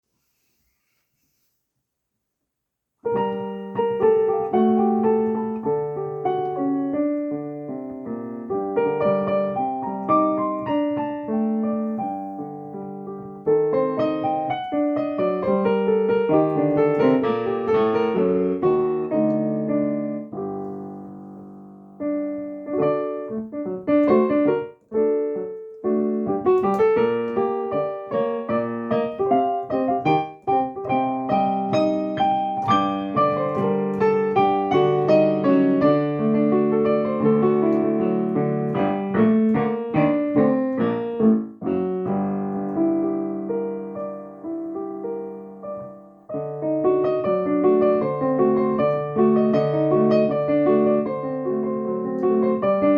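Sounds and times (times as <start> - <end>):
solo piano: 2.9 - 52.9.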